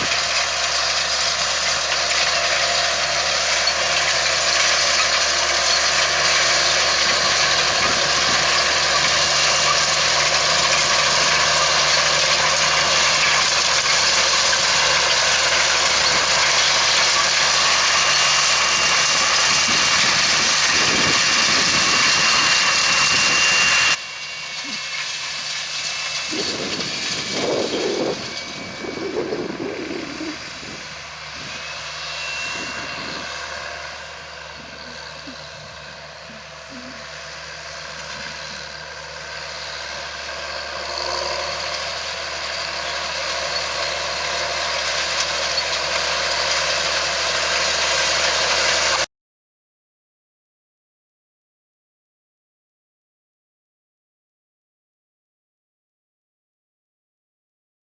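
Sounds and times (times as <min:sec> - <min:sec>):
tractor engine under load: 0:00.0 - 0:49.1.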